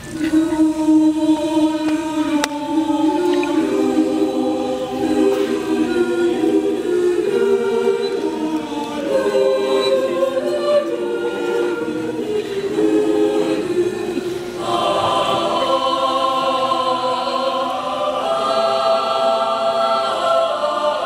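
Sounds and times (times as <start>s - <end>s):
mixed choir singing in harmony: 0.0s - 21.0s.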